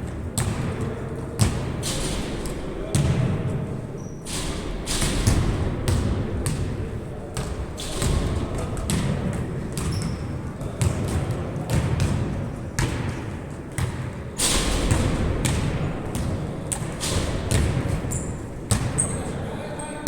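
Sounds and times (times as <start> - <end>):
basketball bouncing on court: 0.0 - 3.6, 4.3 - 19.4.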